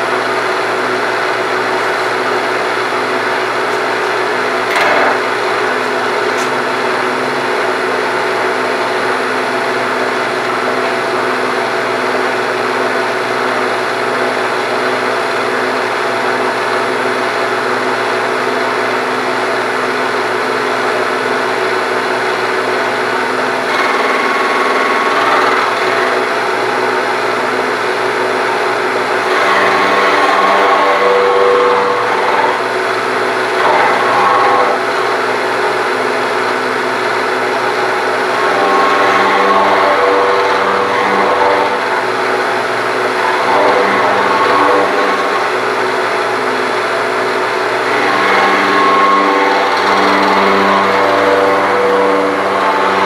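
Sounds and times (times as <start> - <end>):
high cutting whine: 0.0 - 53.0
milling machine running: 0.0 - 53.0.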